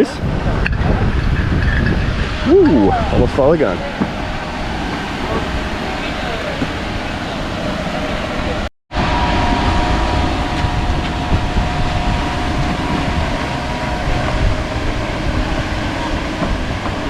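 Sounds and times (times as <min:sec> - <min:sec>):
heavy machinery rumble: 0:00.0 - 0:17.0
high whine: 0:00.0 - 0:17.0.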